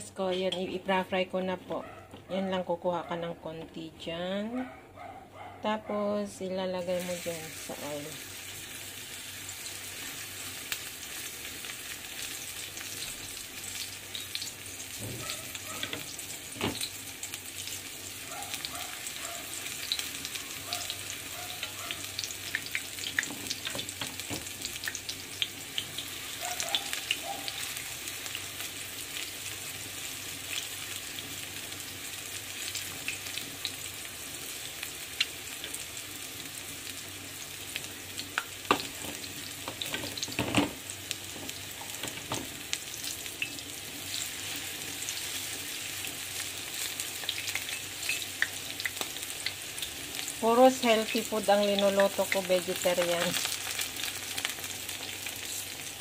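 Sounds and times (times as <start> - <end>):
batter sizzling in hot oil: 6.8 - 56.0.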